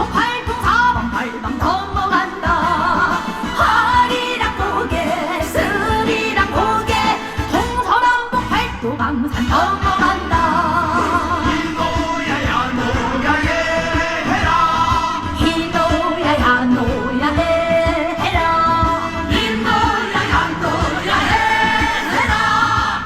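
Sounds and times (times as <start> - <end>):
amplified band with steady beat: 0.0 - 23.0
woman singing with vibrato: 0.0 - 23.0.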